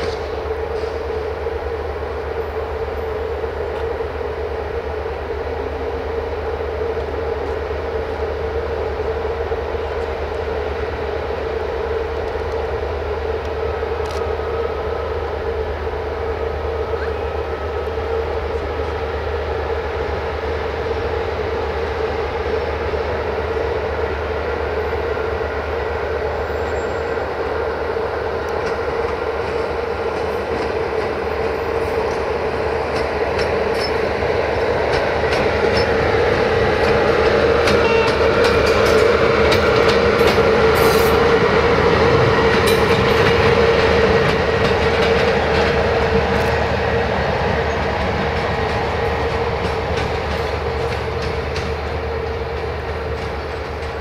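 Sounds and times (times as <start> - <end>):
electric locomotive whine: 0.0 - 54.0.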